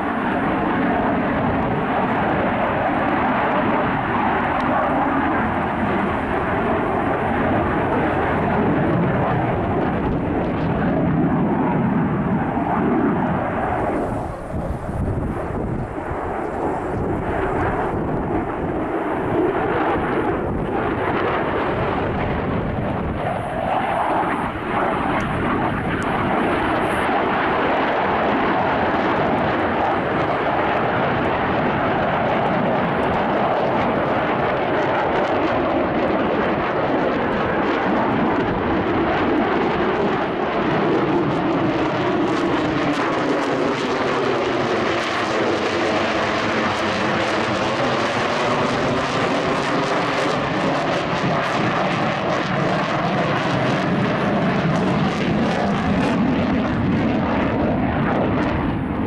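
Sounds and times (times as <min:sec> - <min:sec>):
jet engine roaring overhead: 0:00.0 - 0:59.0.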